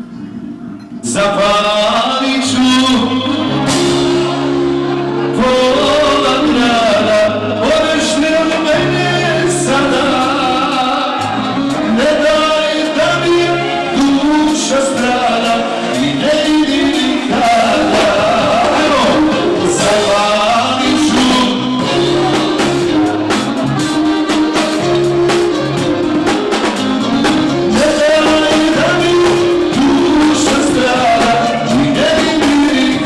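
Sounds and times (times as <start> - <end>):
man singing into microphone: 0.1 - 24.0, 27.1 - 33.0
live band playing: 0.6 - 33.0
drum kit beat: 3.0 - 7.1, 7.8 - 33.0.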